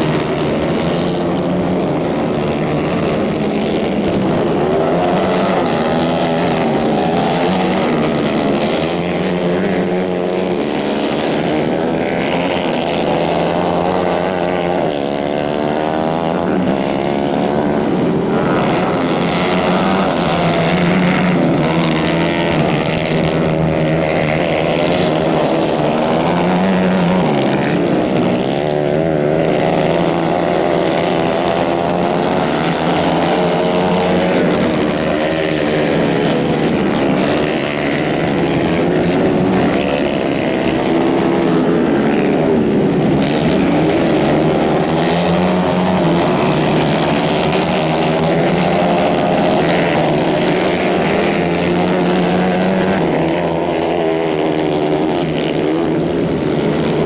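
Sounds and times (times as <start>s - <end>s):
racing kart engines revving: 0.0s - 57.0s.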